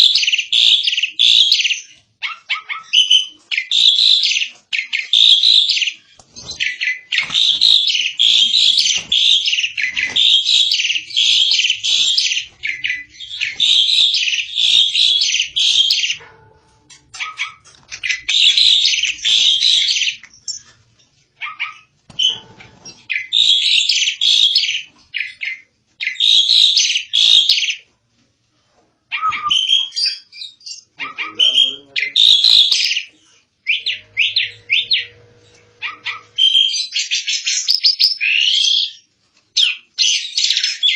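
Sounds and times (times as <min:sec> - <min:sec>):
starling singing: 0:00.0 - 0:20.7, 0:21.4 - 0:27.8, 0:29.1 - 0:39.0.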